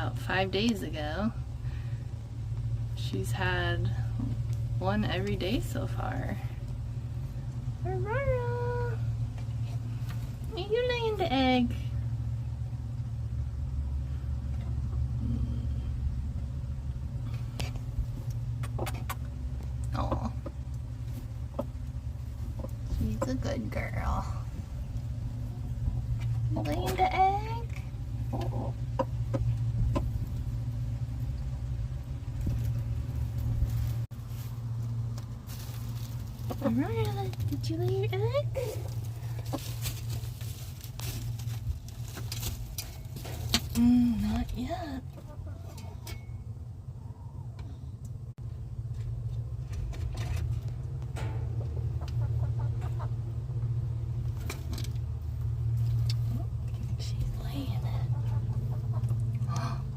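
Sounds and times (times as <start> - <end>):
low motor hum: 0.0 - 59.9
steady low rumble: 0.0 - 59.9.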